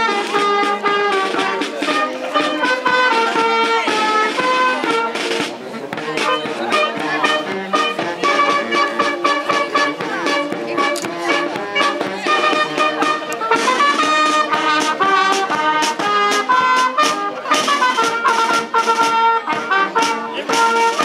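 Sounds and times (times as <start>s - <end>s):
saxophones and brass melody: 0.0s - 21.0s
snare drum strokes: 0.0s - 21.0s.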